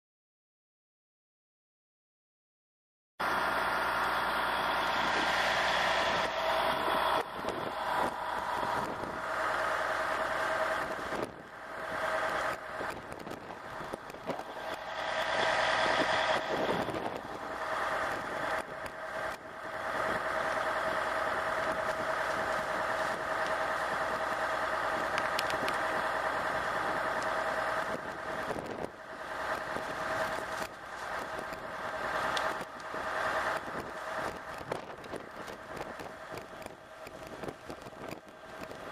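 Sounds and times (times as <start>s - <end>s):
fire truck engine and pump running: 3.2s - 38.9s
hose spraying water: 3.3s - 38.9s.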